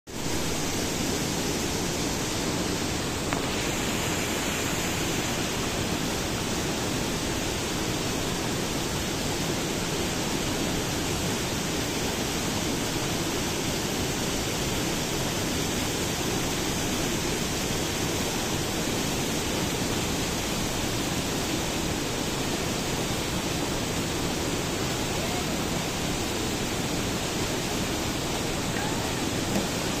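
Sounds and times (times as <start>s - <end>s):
waterfall pouring over rocks: 0.1s - 30.0s.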